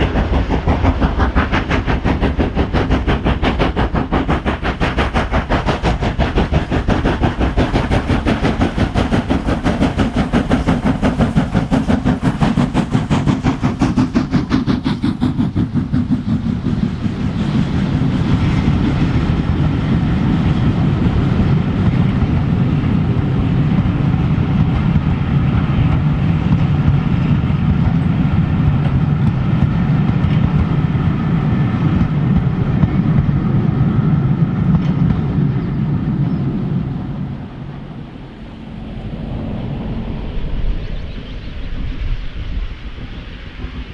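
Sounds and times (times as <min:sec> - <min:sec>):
steam locomotive exhaust beats: 0:00.0 - 0:43.9
train wheels rumbling on rails: 0:00.0 - 0:43.9.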